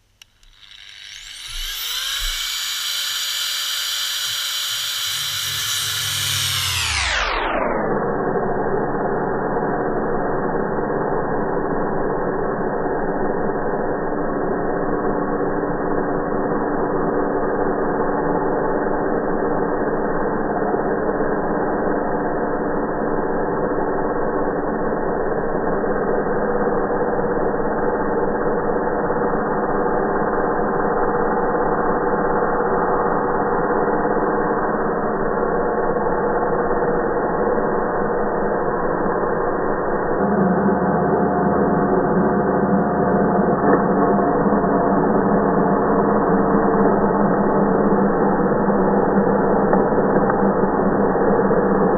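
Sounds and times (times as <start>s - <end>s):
slowed angle grinder drone: 0.0s - 51.9s.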